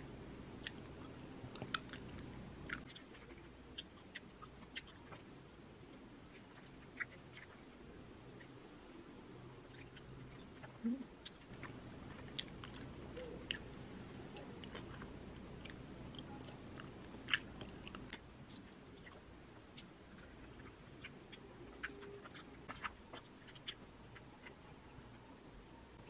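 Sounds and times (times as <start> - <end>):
chewing with crunches: 0.6 - 8.6, 9.6 - 25.3.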